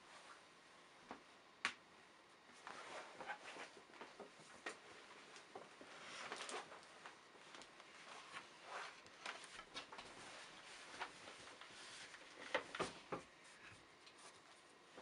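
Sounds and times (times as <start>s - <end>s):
soft rustles: 2.5s - 15.0s.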